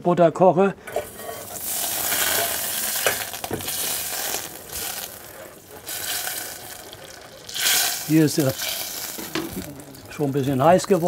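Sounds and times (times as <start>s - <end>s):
butter sizzling in a pot: 0.9s - 11.0s.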